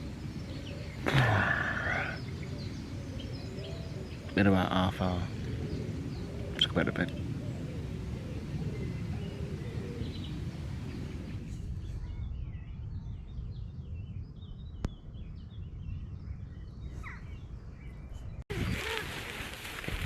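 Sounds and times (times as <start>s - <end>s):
birds chirping and singing: 0.0s - 19.0s.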